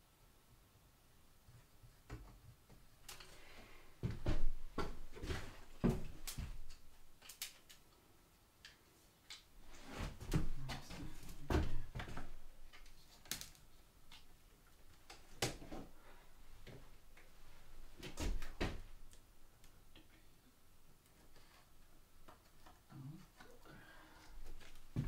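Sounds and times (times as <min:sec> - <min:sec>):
quiet handling sounds: 0:01.4 - 0:25.0.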